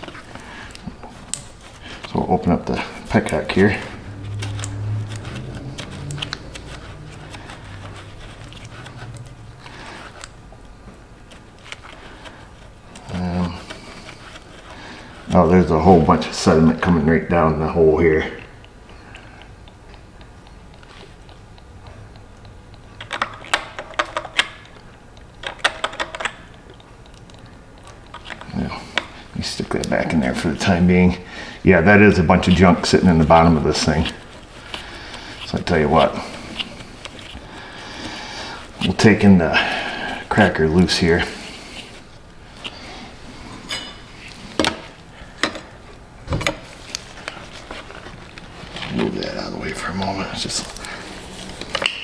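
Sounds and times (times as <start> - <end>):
faint low hum: 0.0 - 51.7.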